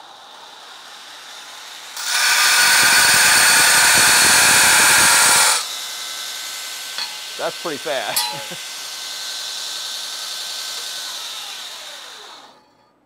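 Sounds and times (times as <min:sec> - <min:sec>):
belt grinder grinding steel: 0:00.0 - 0:12.8.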